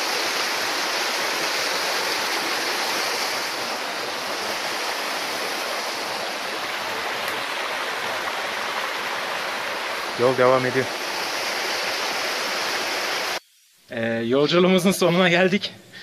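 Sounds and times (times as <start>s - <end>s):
creek water rushing over stones: 0.0s - 13.4s.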